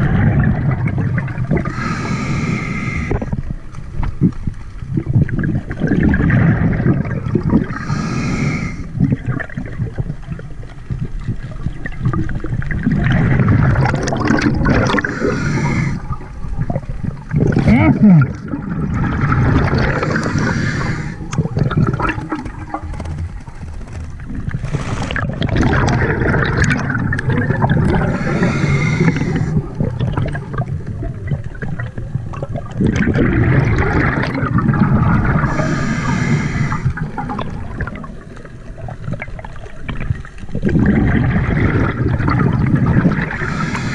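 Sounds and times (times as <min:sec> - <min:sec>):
underwater bubbling: 0:00.0 - 0:43.9.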